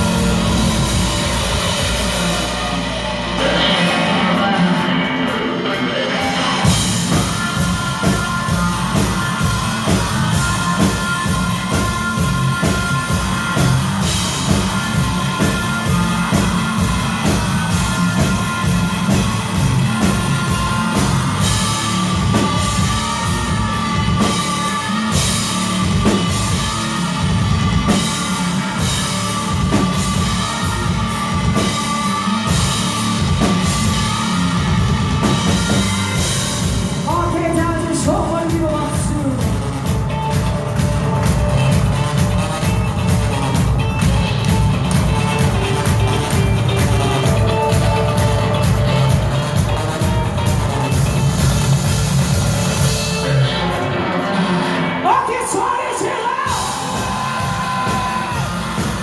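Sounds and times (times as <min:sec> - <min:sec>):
rock band music: 0:00.0 - 0:59.0.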